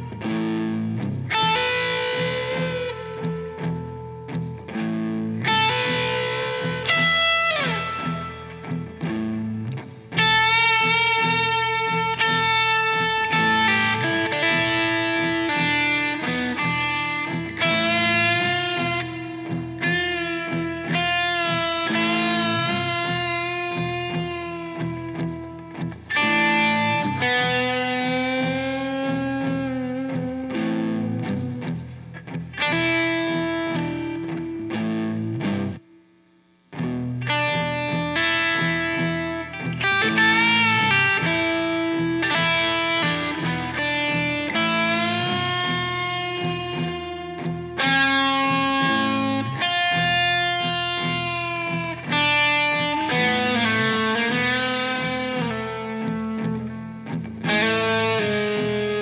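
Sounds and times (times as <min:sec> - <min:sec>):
electric guitar blues lead: 0:00.0 - 0:36.0, 0:36.7 - 0:59.0.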